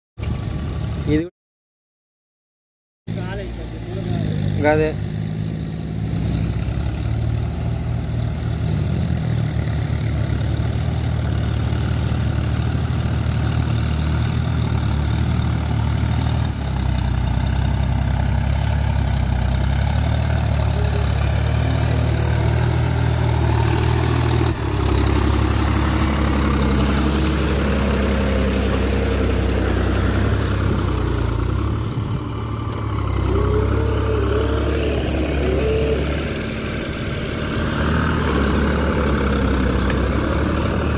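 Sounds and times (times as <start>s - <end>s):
tractor diesel engine running: 3.1s - 40.9s.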